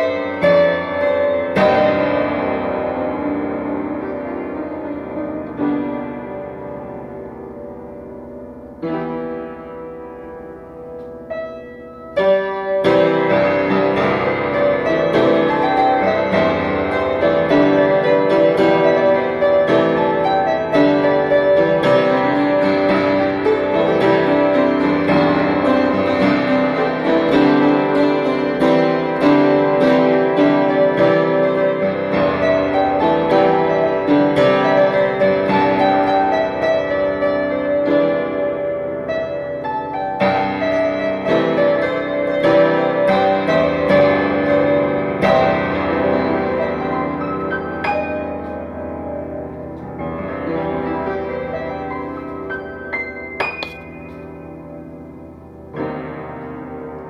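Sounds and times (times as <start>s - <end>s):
piano music with full chords: 0.0s - 57.0s.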